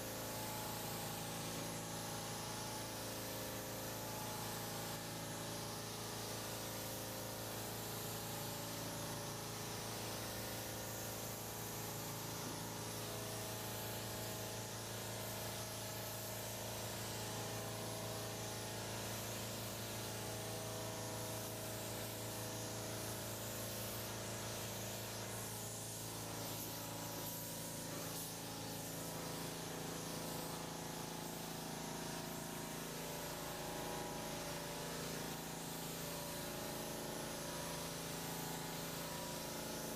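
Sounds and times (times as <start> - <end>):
spray gun hissing: 0.1 - 39.9.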